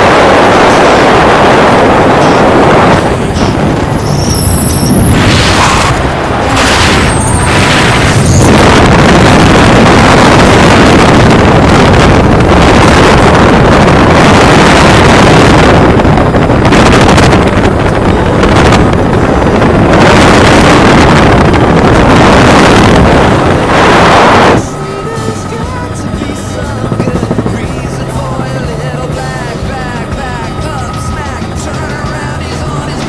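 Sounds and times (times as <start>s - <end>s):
small aircraft engine: 0.0s - 33.0s
wind buffeting microphone: 0.0s - 33.0s.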